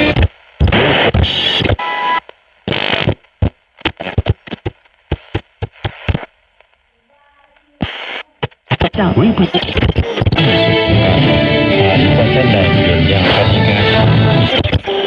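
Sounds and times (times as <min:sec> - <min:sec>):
radio crackles: 0:00.0 - 0:15.0
radio static hiss: 0:00.0 - 0:15.0.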